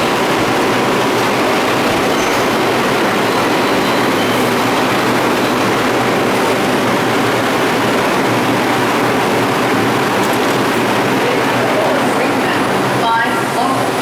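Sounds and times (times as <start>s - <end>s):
subway train running on track: 0.0s - 14.0s.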